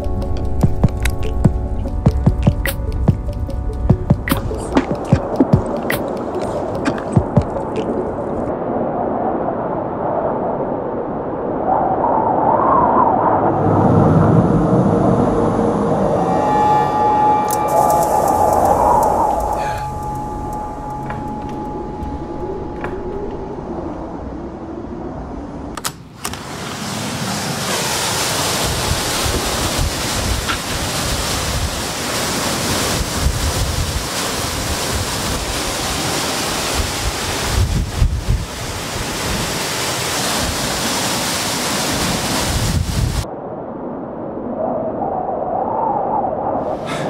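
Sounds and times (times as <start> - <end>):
storm wind gusting through trees: 0.0 - 47.0.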